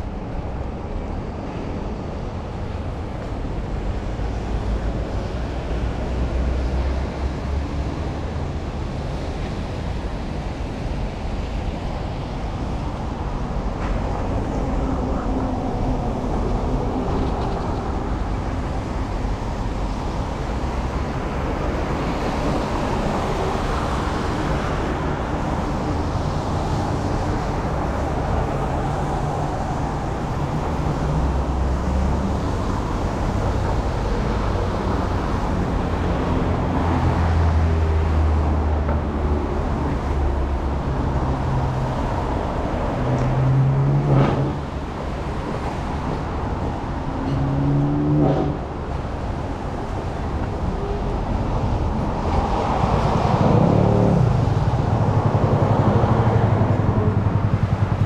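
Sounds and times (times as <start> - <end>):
vehicles on wet roads: 0.0 - 58.0.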